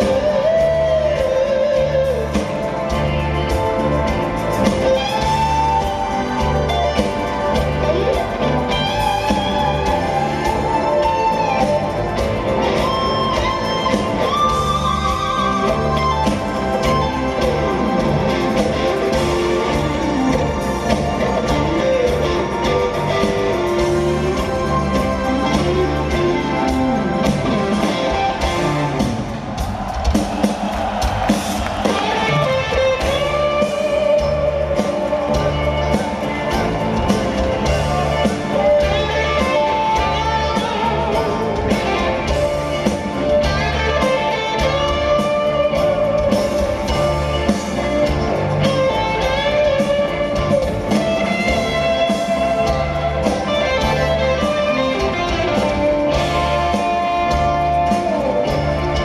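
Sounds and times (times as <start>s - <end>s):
electric guitar solo: 0.0s - 29.3s, 31.7s - 59.0s
bass and drum groove: 0.0s - 59.0s.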